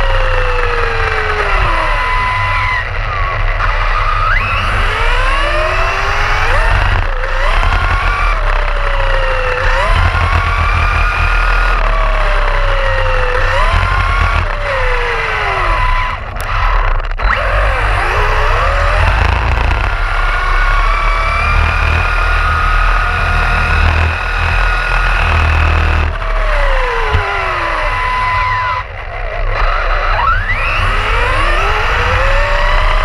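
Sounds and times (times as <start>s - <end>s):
electric motor whining: 0.0s - 33.0s
heavy low rumble: 0.0s - 33.0s.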